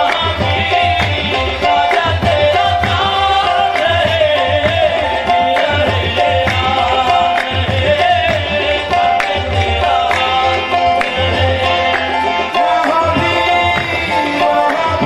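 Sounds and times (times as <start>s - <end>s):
devotional music: 0.0s - 15.0s
tabla drumming: 0.0s - 15.0s.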